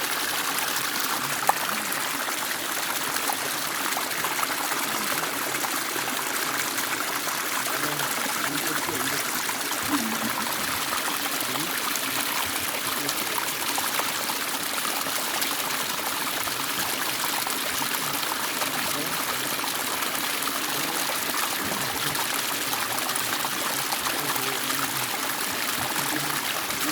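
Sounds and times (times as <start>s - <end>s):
stream water splashing: 0.0s - 26.9s.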